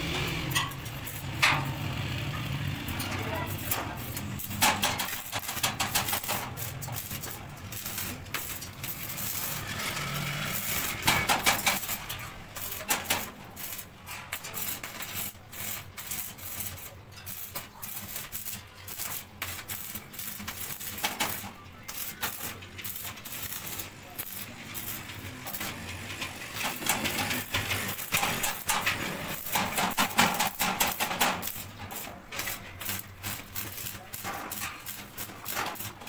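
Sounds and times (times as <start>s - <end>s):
welding arc crackling: 0.0s - 36.0s.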